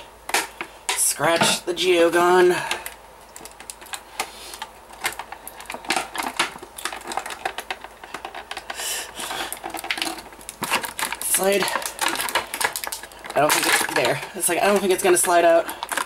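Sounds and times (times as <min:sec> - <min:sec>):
plastic packaging crackling: 0:00.0 - 0:16.0.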